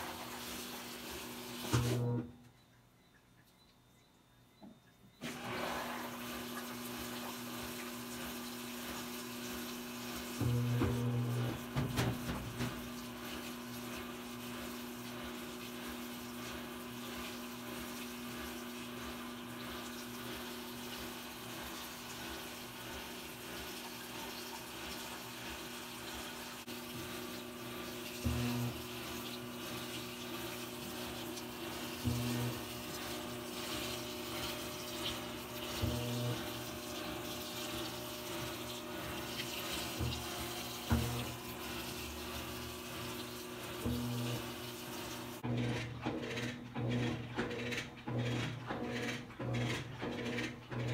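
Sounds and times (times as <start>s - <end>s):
water running into washing machine: 0.0s - 2.4s, 5.2s - 50.9s
washing machine low hum: 0.0s - 50.9s.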